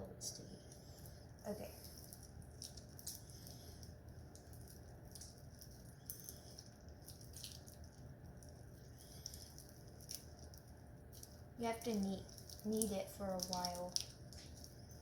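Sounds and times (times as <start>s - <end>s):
low room hum: 0.0s - 15.0s
slime squelching: 0.2s - 15.0s.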